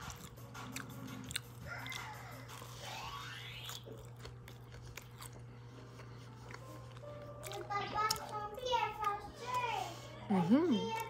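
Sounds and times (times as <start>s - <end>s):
close-up chewing with mouth clicks: 0.0s - 9.6s.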